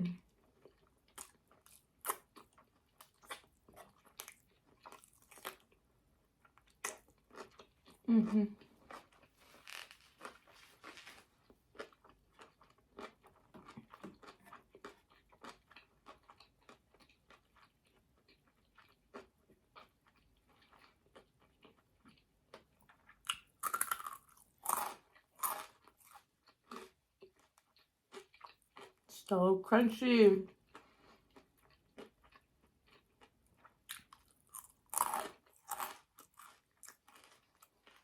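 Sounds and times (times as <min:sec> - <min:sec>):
chewing crunchy food: 0:00.1 - 0:29.2, 0:30.4 - 0:38.0.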